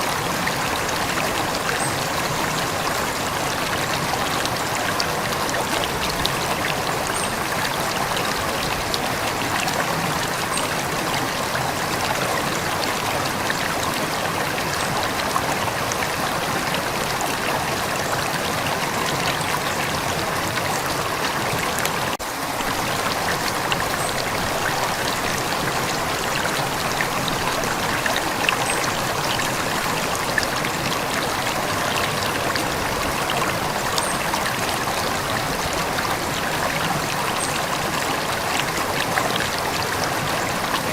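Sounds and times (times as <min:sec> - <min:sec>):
faint trickles and splashes: 0:00.0 - 0:40.9
river water flowing over stones: 0:00.0 - 0:40.9.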